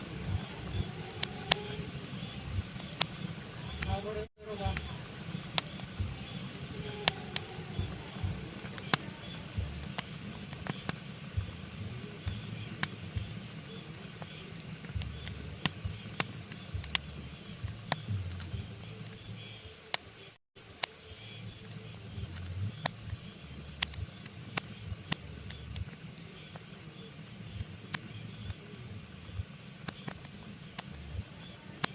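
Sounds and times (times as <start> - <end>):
low rumble of flames: 0.0 - 19.4, 21.4 - 31.9
faint steady hiss: 0.0 - 31.9
logs crackling and popping: 0.0 - 31.9.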